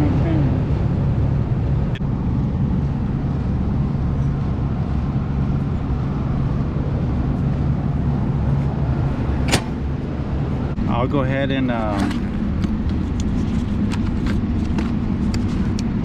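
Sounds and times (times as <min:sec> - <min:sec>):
air conditioning hum: 0:00.0 - 0:16.0.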